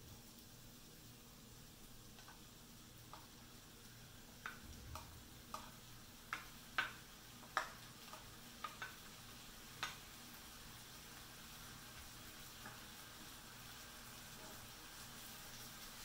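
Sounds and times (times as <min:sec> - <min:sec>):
frying pan sizzling: 0:00.0 - 0:16.0.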